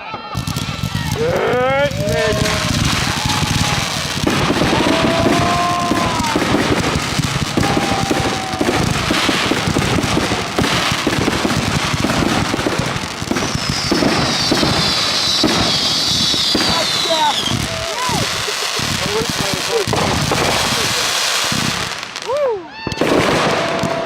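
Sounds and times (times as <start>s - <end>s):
fireworks crackling and popping: 0.0s - 24.0s
firework whistling tone: 0.4s - 24.0s.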